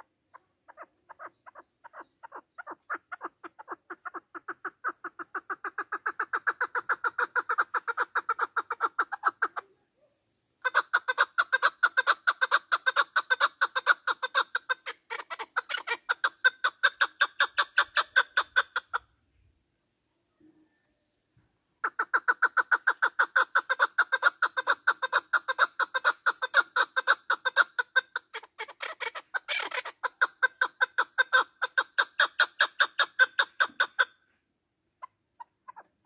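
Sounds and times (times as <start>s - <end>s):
partridge rapid clucking call: 0.0s - 9.7s, 10.6s - 19.1s, 21.8s - 34.2s, 35.0s - 36.0s.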